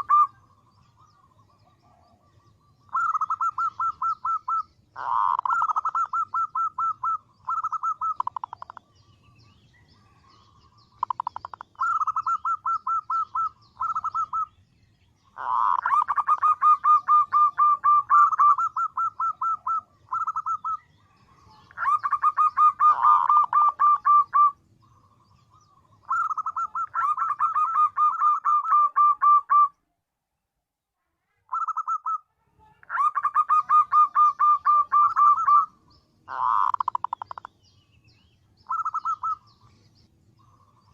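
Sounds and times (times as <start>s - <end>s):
dove cooing: 0.0s - 8.9s, 11.0s - 14.6s, 15.3s - 29.8s, 31.5s - 32.2s, 32.8s - 37.5s, 38.6s - 39.6s.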